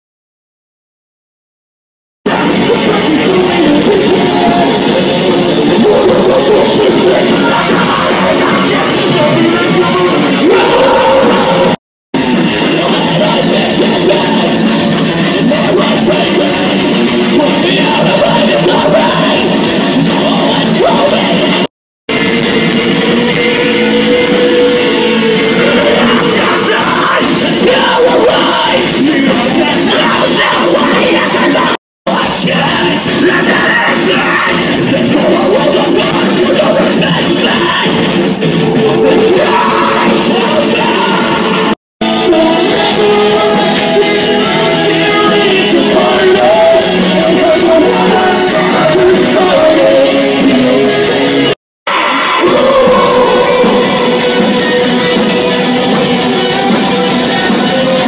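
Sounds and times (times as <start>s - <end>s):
electric guitar: 2.3s - 58.0s
live heavy metal band: 2.3s - 58.0s
sung and yelled vocals: 2.3s - 58.0s.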